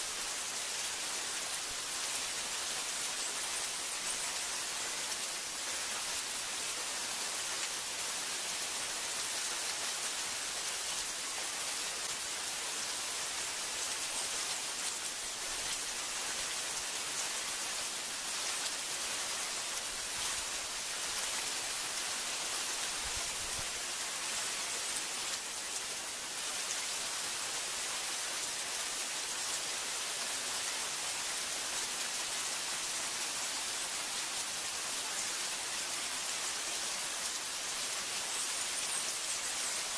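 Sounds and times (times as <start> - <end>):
heavy rain on trees: 0.0 - 39.9.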